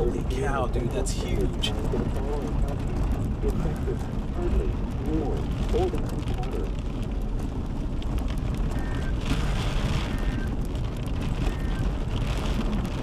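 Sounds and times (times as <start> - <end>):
engine and tyres rumbling: 0.0 - 13.0
wind noise: 0.0 - 13.0.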